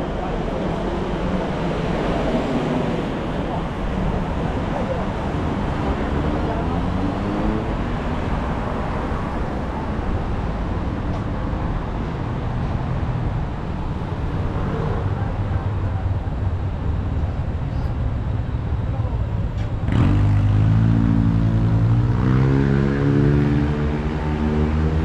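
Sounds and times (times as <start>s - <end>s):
passers-by talking: 0.0s - 20.7s
road traffic: 0.0s - 25.0s.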